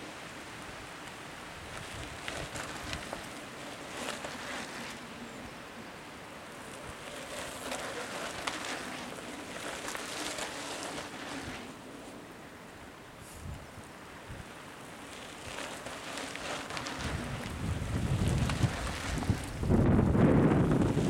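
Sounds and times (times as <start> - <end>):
bike tyres hissing on dirt: 0.0 - 21.0.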